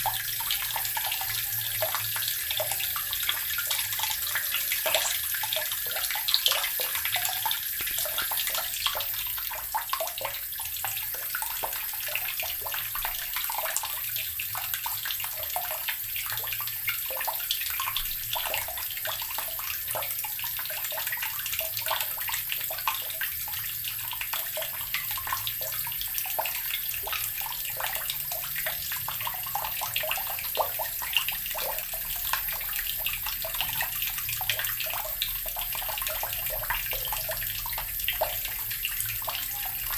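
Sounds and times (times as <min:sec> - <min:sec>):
tap water splashing: 0:04.9 - 0:39.9.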